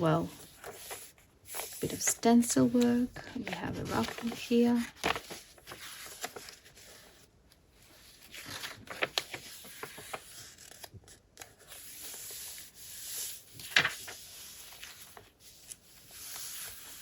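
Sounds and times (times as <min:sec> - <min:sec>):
paper pages rustling and turning: 0:00.0 - 0:17.0.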